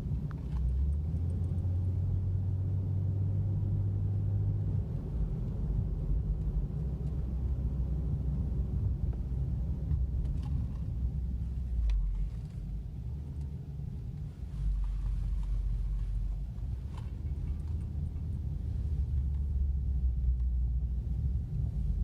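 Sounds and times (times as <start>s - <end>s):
car engine and exhaust from cabin: 0.0s - 22.0s.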